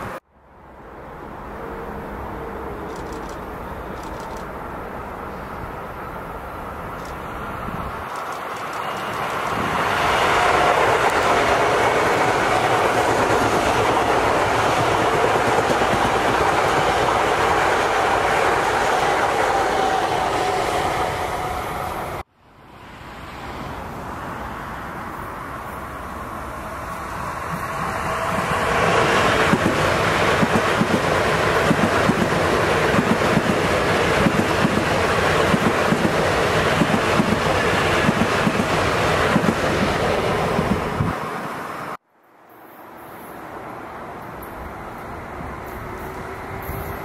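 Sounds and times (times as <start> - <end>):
electric trains passing: 0.0 - 47.0.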